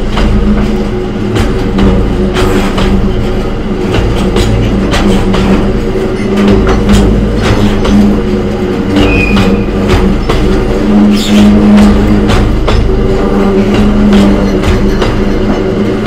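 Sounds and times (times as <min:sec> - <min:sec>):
steady low drone: 0:00.0 - 0:16.0
train wheels clacking over rail joints: 0:00.0 - 0:16.0.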